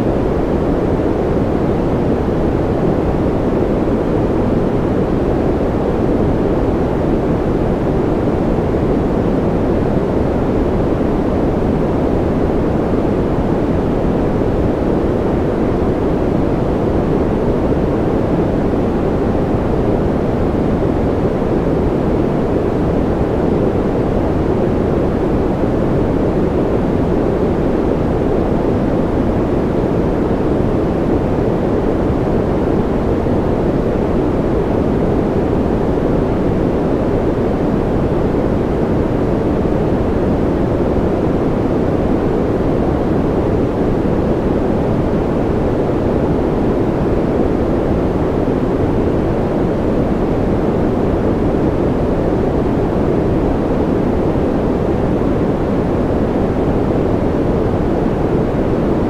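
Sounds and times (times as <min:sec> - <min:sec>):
low white noise rush: 0:00.0 - 0:59.0.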